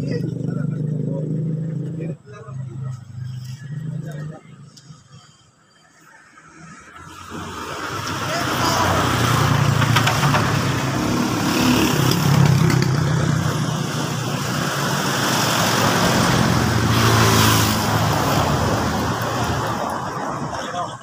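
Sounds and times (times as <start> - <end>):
vehicles passing on road: 0.0 - 21.0.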